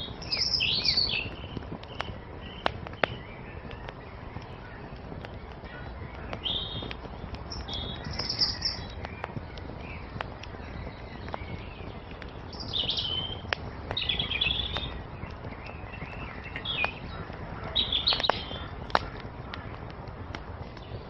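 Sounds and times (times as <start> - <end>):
songbirds twittering: 0.0 - 21.0
wood fire crackling and popping: 0.0 - 21.0.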